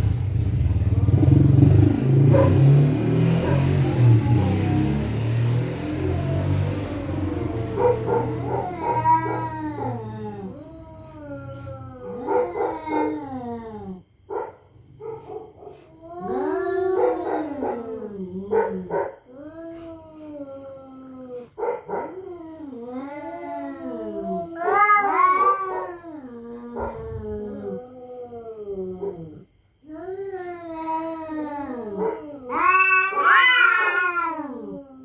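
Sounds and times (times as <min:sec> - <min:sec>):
cats caterwauling: 0:02.2 - 0:14.1, 0:15.7 - 0:35.0.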